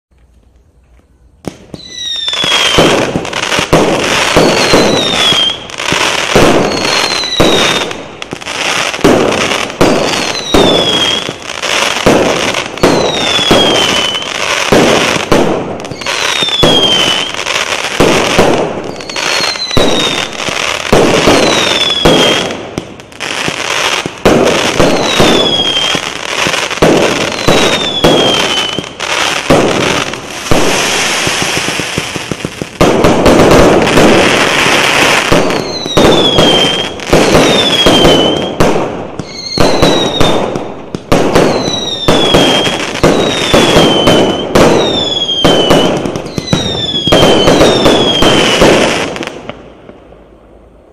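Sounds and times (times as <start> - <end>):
falling firework whistle: 1.0 - 22.6, 23.2 - 49.4
fireworks shots and bursts: 1.4 - 50.9.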